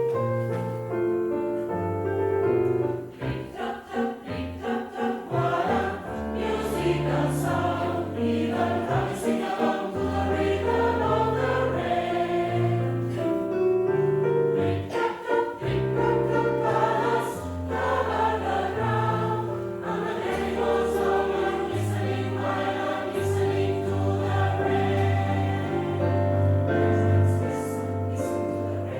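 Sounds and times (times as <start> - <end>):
choir singing in parts: 3.0 - 13.6, 14.2 - 28.9.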